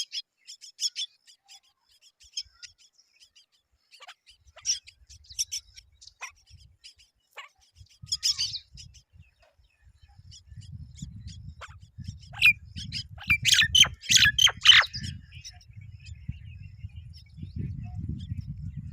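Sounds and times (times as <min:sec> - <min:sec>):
birds chirping and squawking: 0:00.0 - 0:18.9.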